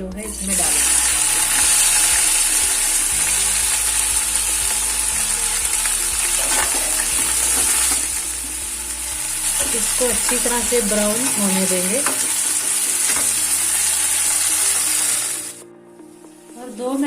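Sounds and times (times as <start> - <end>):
vegetables sizzling in hot oil: 0.3 - 15.6.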